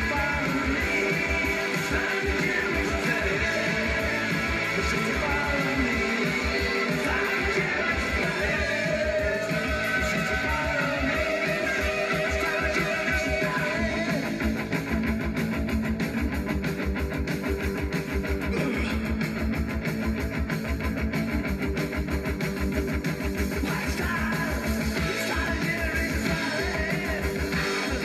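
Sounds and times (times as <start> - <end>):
rock music with guitar and drums: 0.0 - 28.0.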